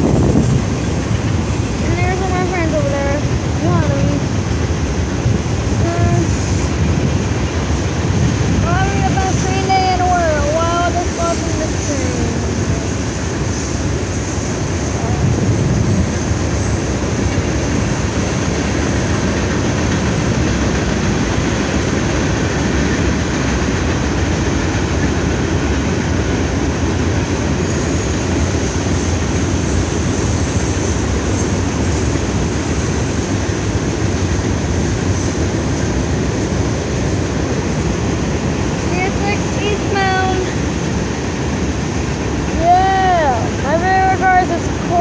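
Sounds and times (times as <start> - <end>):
train wheels rolling on rails: 0.0 - 45.0.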